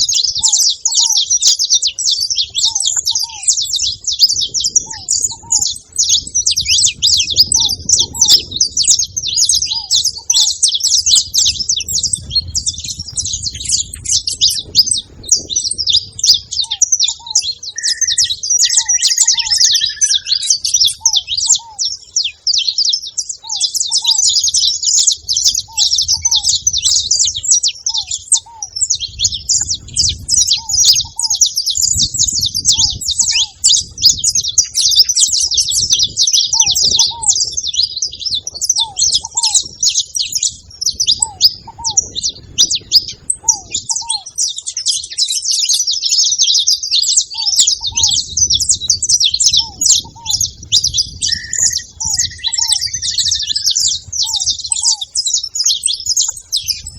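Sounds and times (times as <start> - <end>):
finches twittering: 0.0 - 56.9
low paired bird notes: 0.0 - 56.9.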